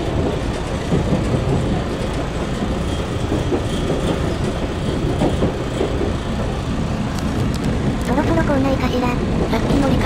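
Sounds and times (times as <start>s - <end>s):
train wheels and running gear: 0.0s - 10.0s.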